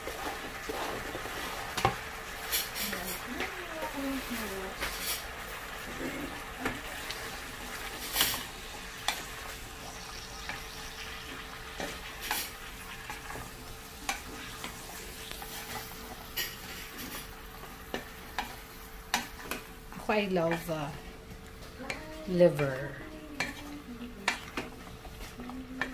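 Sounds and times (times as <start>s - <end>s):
food sizzling in a pot: 0.0s - 25.9s.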